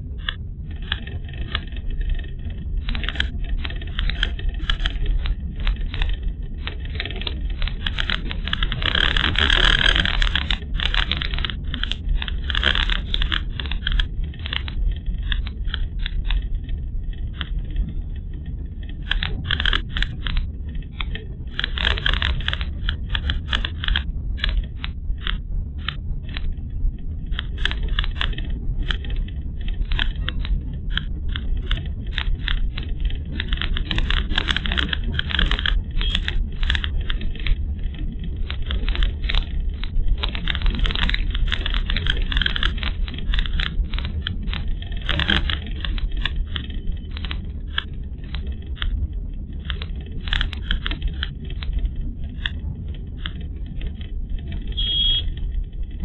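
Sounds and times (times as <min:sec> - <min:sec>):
tyre and engine rumble: 0:00.0 - 0:56.0
rattling clicks: 0:00.2 - 0:16.5, 0:18.8 - 0:26.5, 0:27.3 - 0:49.0.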